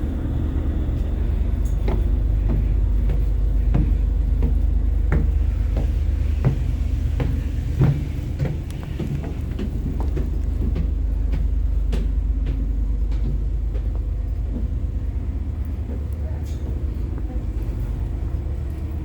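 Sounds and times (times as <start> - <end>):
boat engines rumbling: 0.0 - 19.0.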